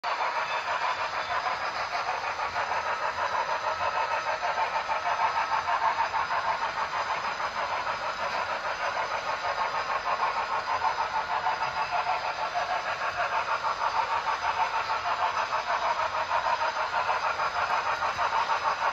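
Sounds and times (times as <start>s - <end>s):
model steam locomotive chuffing: 0.0s - 18.9s.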